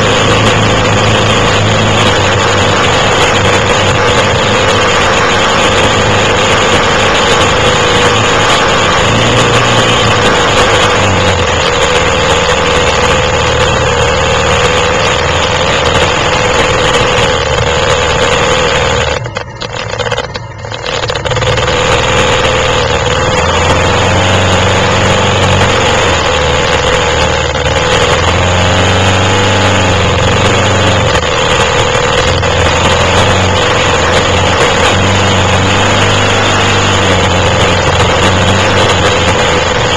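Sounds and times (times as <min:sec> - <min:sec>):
quad bike engines revving: 0:00.0 - 0:39.9.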